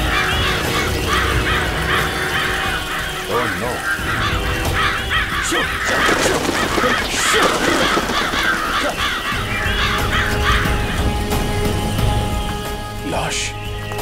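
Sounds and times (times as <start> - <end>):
crows cawing: 0.0 - 11.6.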